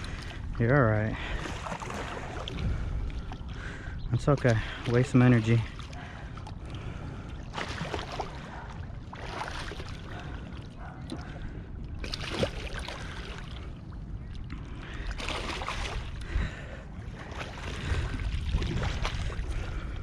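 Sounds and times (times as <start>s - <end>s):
water sloshing and splashing: 0.0s - 20.0s
wind rumbling on microphone: 0.0s - 20.0s.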